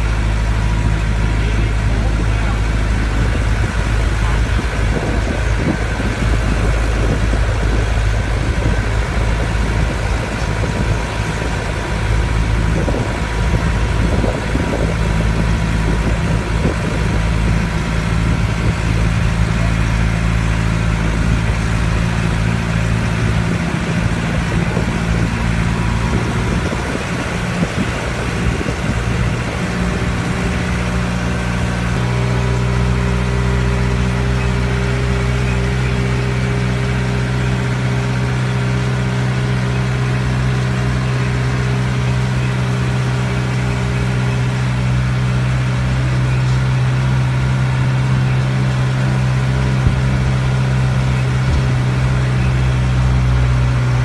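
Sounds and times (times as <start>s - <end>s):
tram engine running: 0.0s - 54.0s.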